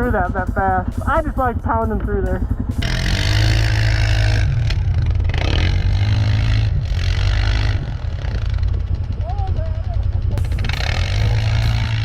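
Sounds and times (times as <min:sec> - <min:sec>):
snow bike engine revving: 0:00.0 - 0:12.0.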